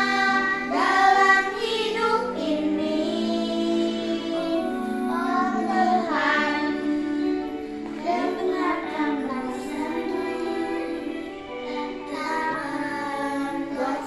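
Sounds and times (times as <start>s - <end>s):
children singing: 0.0s - 14.0s.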